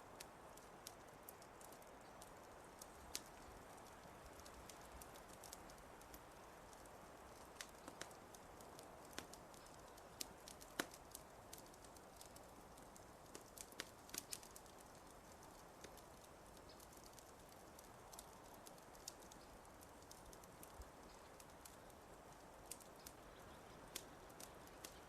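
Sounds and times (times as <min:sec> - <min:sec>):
faint steady hiss: 0:00.0 - 0:25.0
fire crackling and popping: 0:00.0 - 0:25.0.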